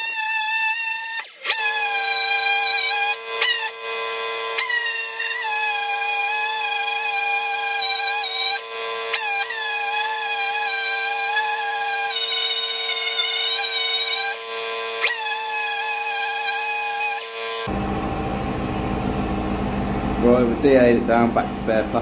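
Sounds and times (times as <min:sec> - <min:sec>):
orbital sander whining: 0:00.0 - 0:22.0.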